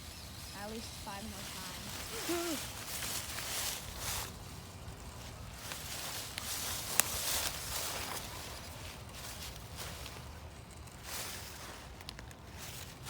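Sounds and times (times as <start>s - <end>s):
footsteps in leaf litter: 0.0s - 13.0s.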